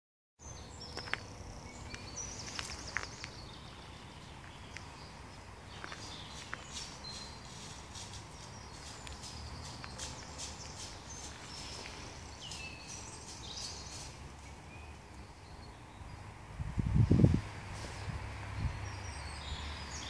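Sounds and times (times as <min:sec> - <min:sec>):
songbirds chirping and trilling: 0:00.4 - 0:20.0.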